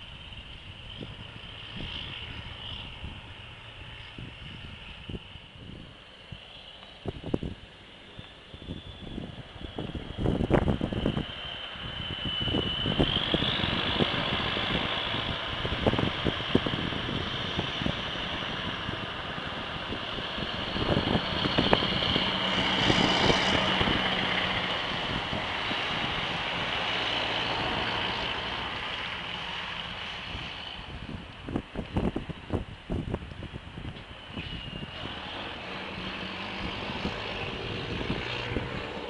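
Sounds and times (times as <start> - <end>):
diesel truck driving past: 0.0 - 39.0.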